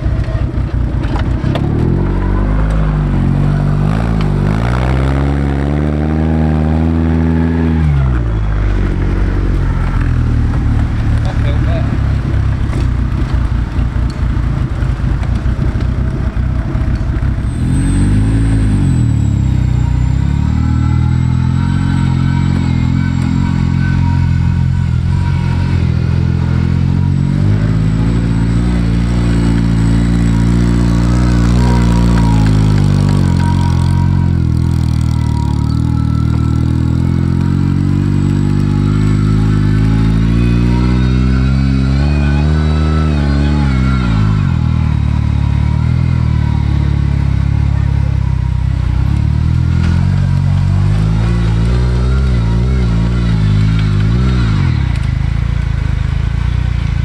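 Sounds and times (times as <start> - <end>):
car engine revving under load: 0.0 - 57.0.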